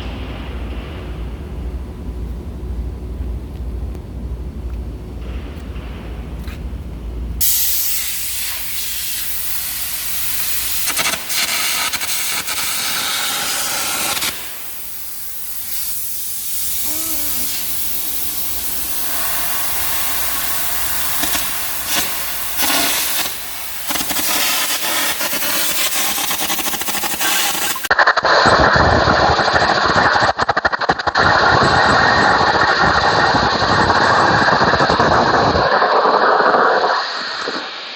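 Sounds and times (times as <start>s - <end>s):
welding hiss with crackles: 7.4s - 37.9s.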